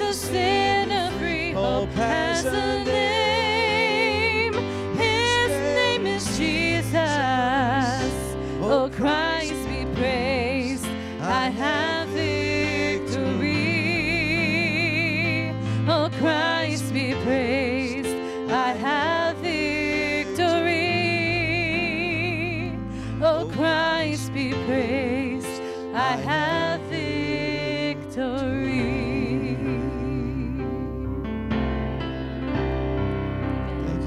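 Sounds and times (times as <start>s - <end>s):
bass and keyboard: 0.0s - 34.0s.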